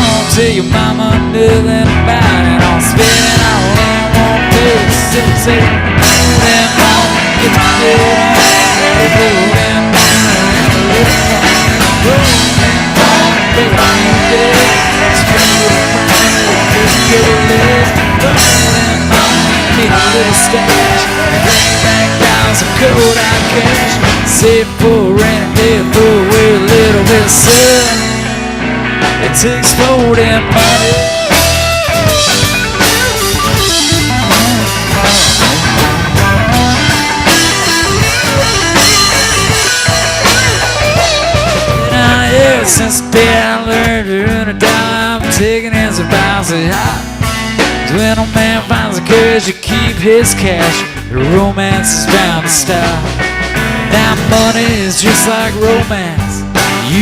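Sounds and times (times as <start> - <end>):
person singing: 0.0 - 28.4, 29.1 - 31.8, 33.4 - 47.2, 47.8 - 57.0
country rock band playing: 0.0 - 57.0
sliding lead guitar line: 0.0 - 57.0
steady drum beat: 0.0 - 57.0.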